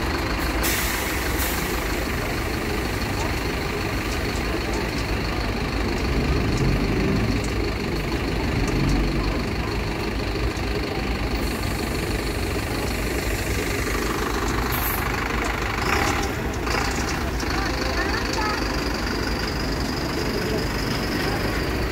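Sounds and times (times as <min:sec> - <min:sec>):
bus engines rumbling: 0:00.0 - 0:21.9.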